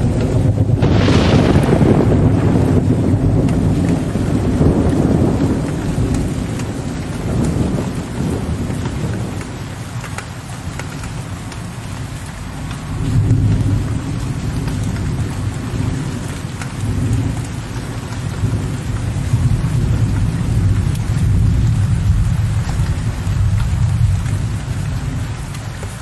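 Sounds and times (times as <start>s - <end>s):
distant thunder rumbling: 0.0s - 26.0s
raindrops tapping: 0.0s - 26.0s
steady rain: 0.0s - 26.0s.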